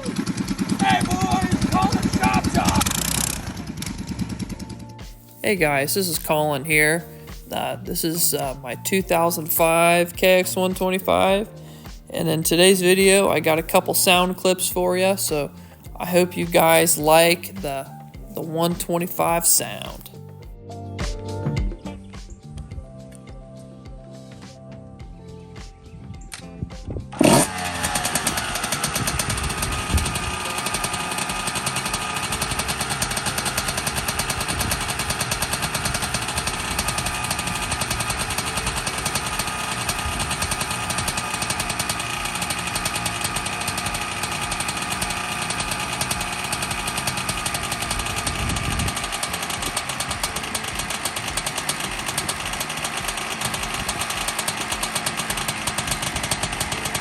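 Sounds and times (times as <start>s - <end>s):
two-stroke engine popping idle: 0.0s - 20.5s, 27.1s - 57.0s.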